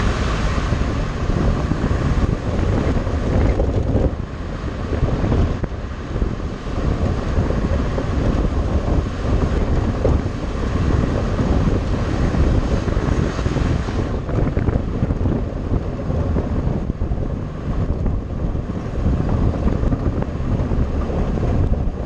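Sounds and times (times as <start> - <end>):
tyres on dirt track: 0.0 - 22.0
vehicle engine: 0.0 - 22.0
wind buffeting microphone: 0.0 - 22.0.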